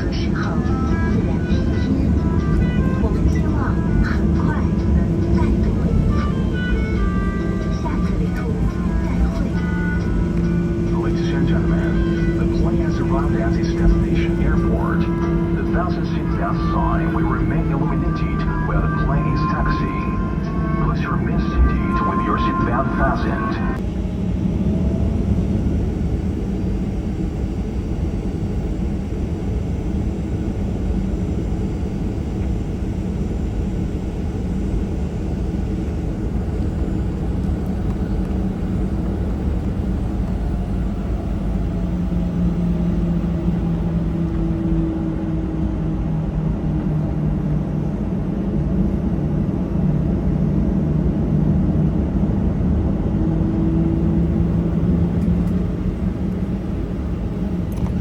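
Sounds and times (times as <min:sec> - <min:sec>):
jet engines idling rumble: 0:00.0 - 0:58.0
low hum: 0:00.0 - 0:58.0.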